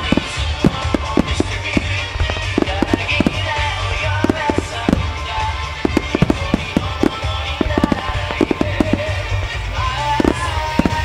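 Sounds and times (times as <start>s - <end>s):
fireworks bursting: 0.0s - 11.0s
music: 0.0s - 11.0s.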